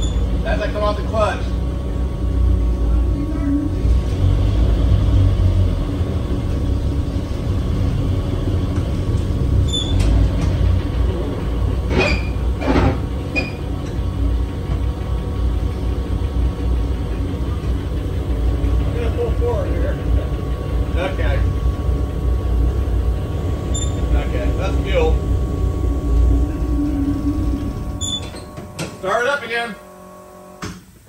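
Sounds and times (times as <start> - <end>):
bus engine idling: 0.0 - 30.4.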